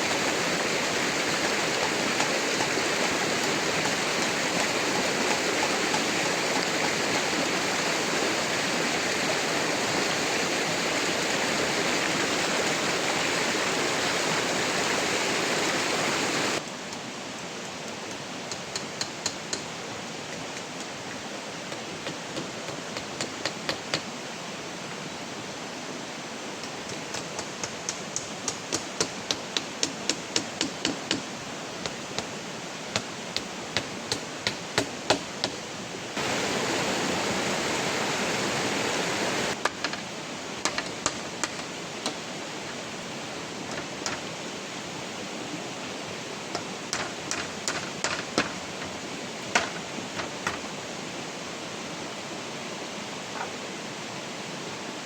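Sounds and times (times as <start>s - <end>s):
hiss of running water: 0.0s - 55.0s.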